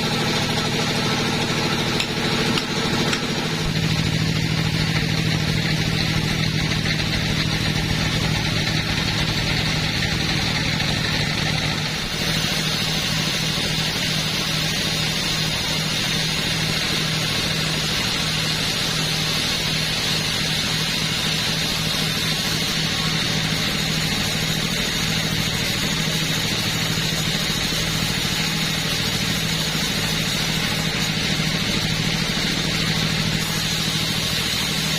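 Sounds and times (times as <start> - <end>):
chainsaw engine running: 0.0 - 34.9.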